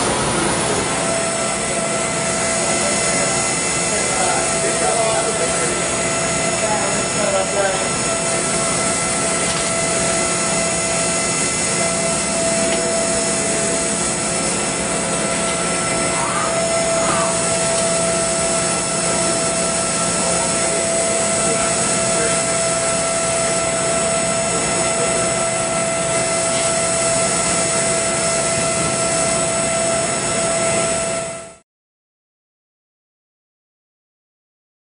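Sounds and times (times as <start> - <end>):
milling machine cutting steel: 0.0 - 31.4
high spindle whine: 0.0 - 31.6.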